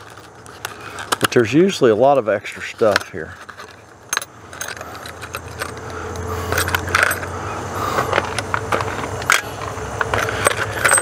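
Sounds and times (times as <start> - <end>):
small metal parts clinking: 0.0 - 11.0.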